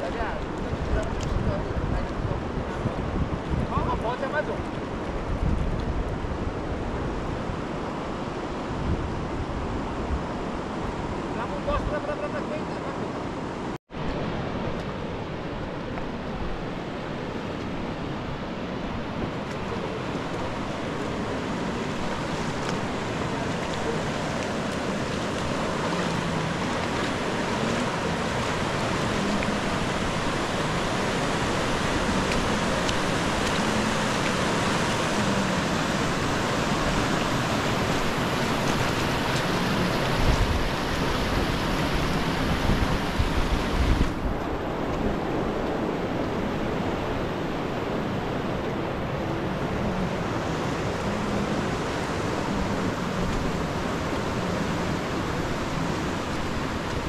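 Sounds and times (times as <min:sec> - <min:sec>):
rushing river water: 0:00.0 - 0:57.0
wind gusts on microphone: 0:00.0 - 0:57.0.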